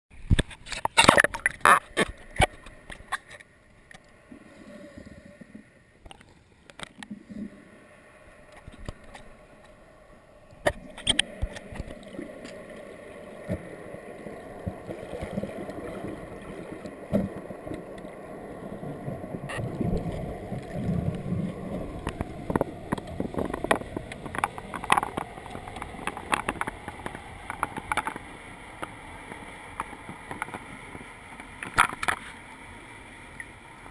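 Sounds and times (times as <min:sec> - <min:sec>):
underwater water rush: 0:00.8 - 0:33.9.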